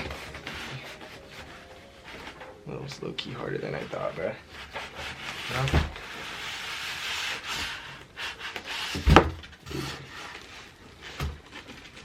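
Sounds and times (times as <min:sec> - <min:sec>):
cardboard and foam scraping: 0:00.0 - 0:02.5, 0:03.6 - 0:12.0.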